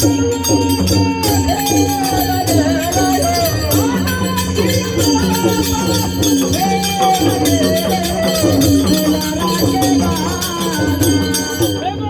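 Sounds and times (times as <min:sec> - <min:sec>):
jingling percussion rhythm: 0:00.0 - 0:12.0
sliding wavering melody: 0:00.0 - 0:12.0.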